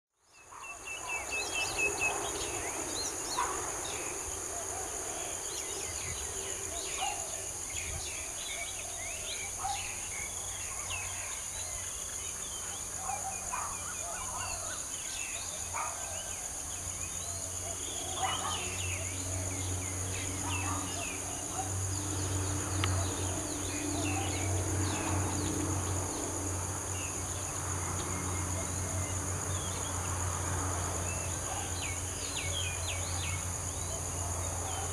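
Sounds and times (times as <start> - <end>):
insects droning: 0.2 - 34.9.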